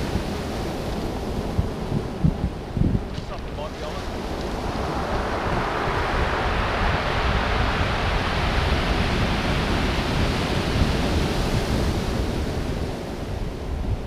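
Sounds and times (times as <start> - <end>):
surf washing on pebbles: 0.0 - 13.6
wind buffeting microphone: 0.0 - 14.0.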